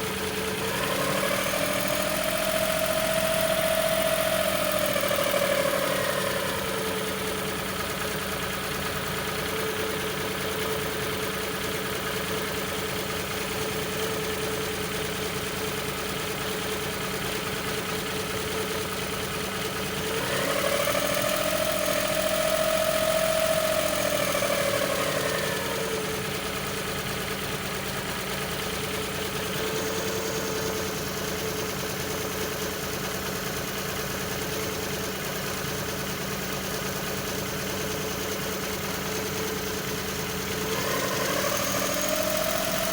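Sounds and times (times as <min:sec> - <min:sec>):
engine idling and revving: 0:00.0 - 0:42.9.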